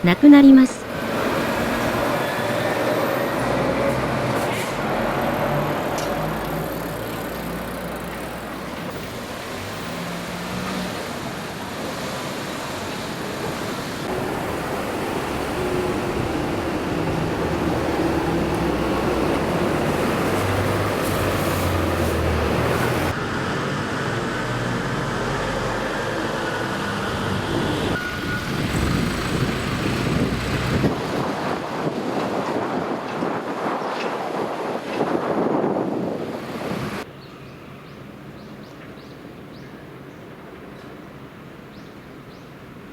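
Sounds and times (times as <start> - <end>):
cars and trucks passing: 0.0 - 42.9.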